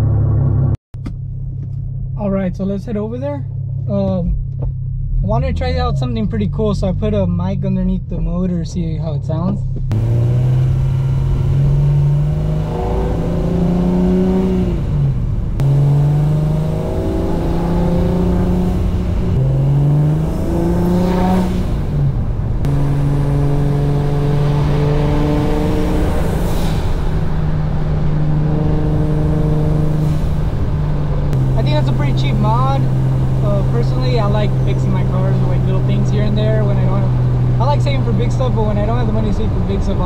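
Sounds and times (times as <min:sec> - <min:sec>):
car engine accelerating and shifting: 0:03.5 - 0:40.0.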